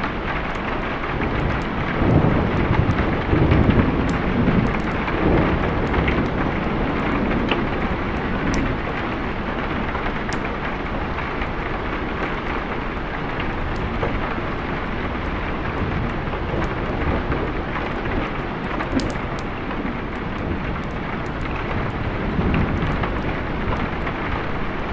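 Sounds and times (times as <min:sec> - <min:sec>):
heavy rain: 0:00.0 - 0:24.9
thunder rumbling: 0:00.0 - 0:24.9.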